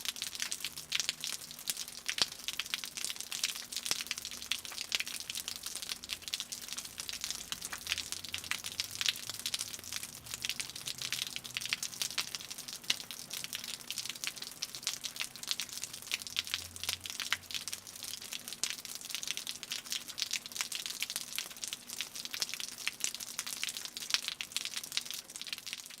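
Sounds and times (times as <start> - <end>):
rain dripping from a roof: 0.0 - 26.0.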